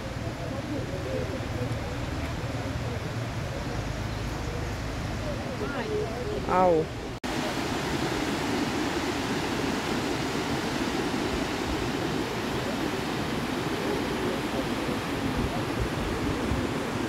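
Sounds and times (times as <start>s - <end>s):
fast river rushing: 0.0s - 17.0s.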